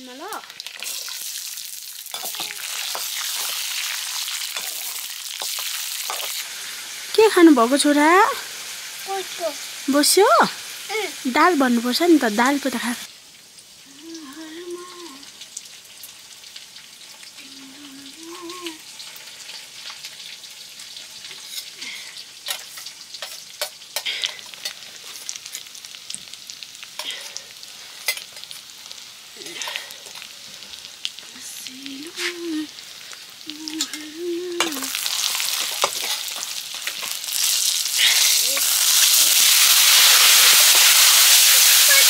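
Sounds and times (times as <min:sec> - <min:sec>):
food sizzling in a pan: 0:00.0 - 0:42.0.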